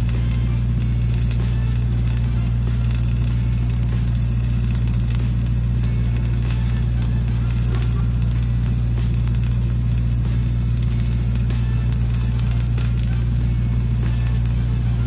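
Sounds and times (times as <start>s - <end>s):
faint welding arc crackle: 0.0s - 15.0s
welding machine engine running: 0.0s - 15.0s.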